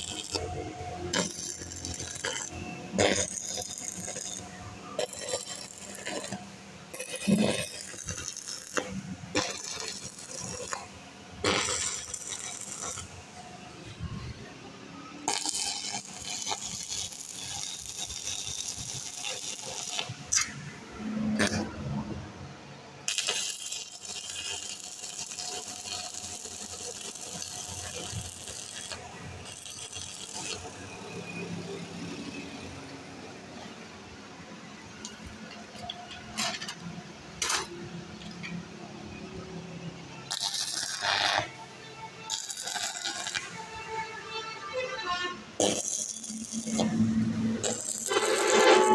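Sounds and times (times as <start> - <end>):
welding arc crackling: 0.0 - 14.2, 15.2 - 22.2, 23.0 - 32.9, 34.9 - 38.6, 40.2 - 41.6, 42.2 - 43.8, 45.6 - 48.9.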